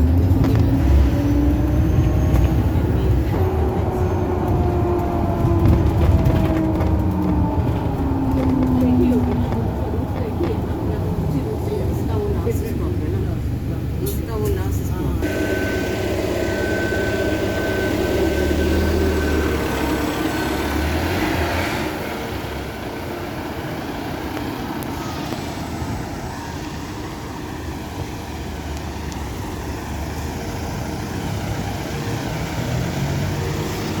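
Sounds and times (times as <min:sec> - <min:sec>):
bus engine and road noise: 0:00.0 - 0:34.0.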